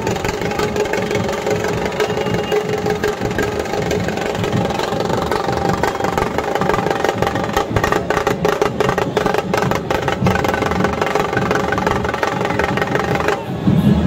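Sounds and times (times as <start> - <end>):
barrel drums beaten with sticks: 0.0 - 13.4
sharp rapid drum strokes: 0.0 - 14.0.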